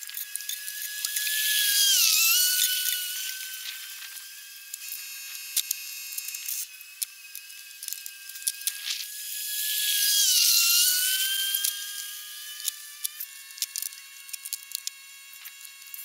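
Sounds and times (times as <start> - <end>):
screws and metal parts clicking: 0.0 - 9.1, 10.1 - 16.0
cordless drill whining: 0.0 - 16.0.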